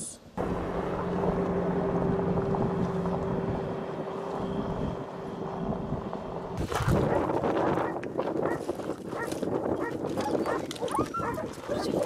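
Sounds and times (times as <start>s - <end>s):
vehicle engine driving on gravel: 0.4s - 12.0s.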